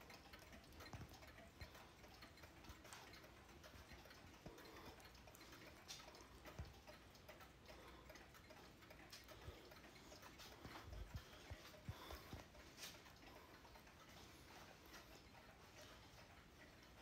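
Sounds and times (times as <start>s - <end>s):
mechanical clocks ticking: 0.0s - 17.0s.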